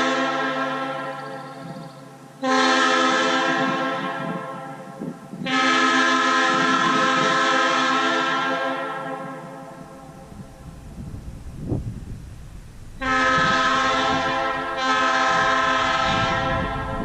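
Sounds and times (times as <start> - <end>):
locomotive air horn blasts: 0.0 - 1.8, 2.4 - 10.7, 13.0 - 17.0.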